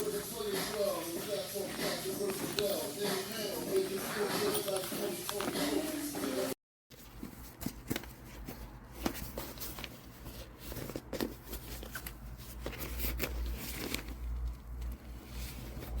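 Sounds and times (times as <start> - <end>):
handling clicks and rustles: 0.0 - 6.3, 6.9 - 16.0.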